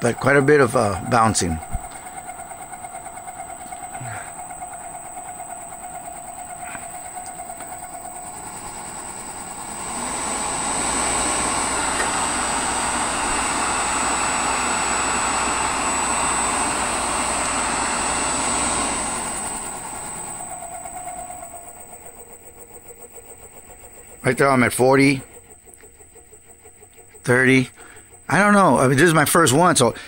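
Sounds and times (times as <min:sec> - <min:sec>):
cooling fan rushing: 0:00.0 - 0:30.0
electric motor high whine: 0:00.0 - 0:30.0.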